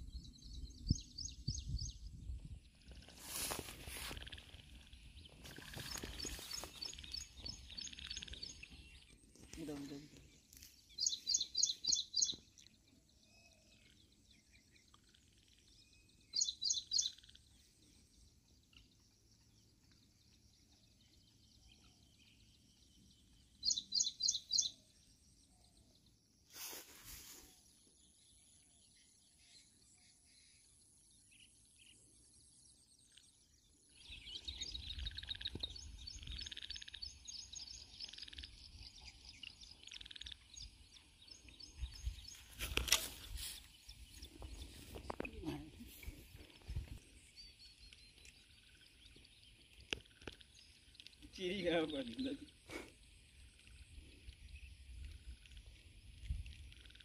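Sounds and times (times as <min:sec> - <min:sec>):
bird chirping: 0:00.0 - 0:26.5, 0:27.4 - 0:55.6.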